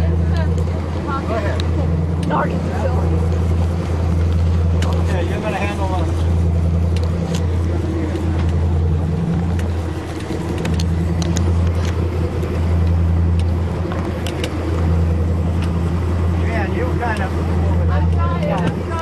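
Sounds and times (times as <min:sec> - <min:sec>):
motorboat engine droning: 0:00.0 - 0:19.0.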